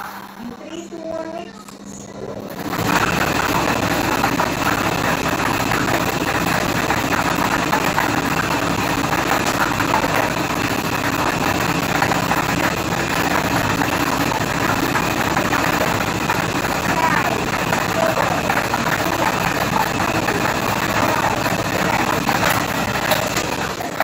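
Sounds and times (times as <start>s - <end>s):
lottery drum motor spinning: 0.0s - 24.0s.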